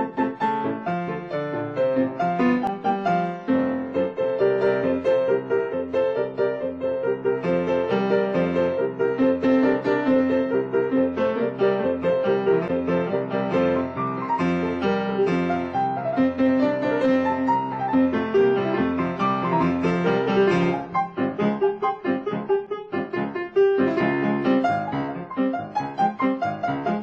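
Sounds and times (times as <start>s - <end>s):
piano duet: 0.0s - 27.0s.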